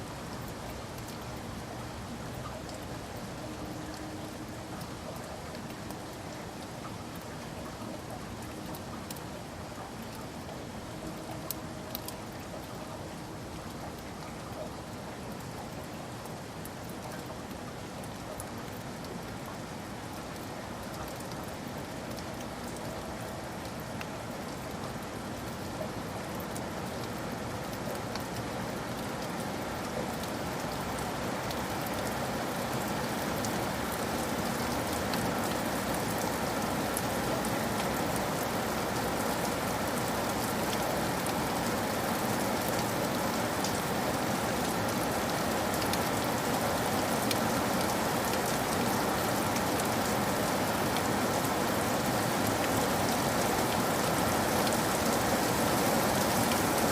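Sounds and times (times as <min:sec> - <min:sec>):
rain on a roof: 0:00.0 - 0:56.9.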